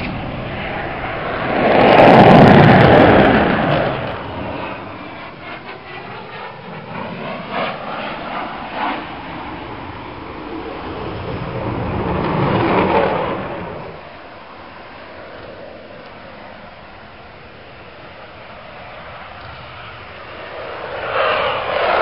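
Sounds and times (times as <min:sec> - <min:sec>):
aircraft flying past: 0:00.0 - 0:22.0
distant low rumble: 0:00.0 - 0:22.0.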